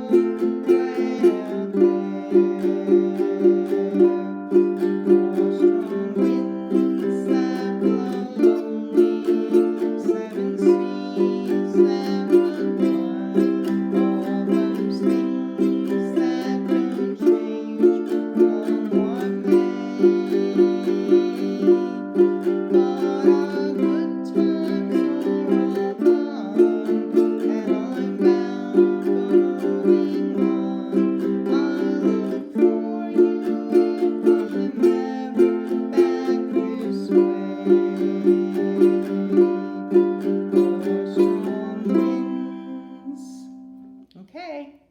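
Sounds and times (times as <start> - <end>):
ukulele strumming: 0.0 - 44.2.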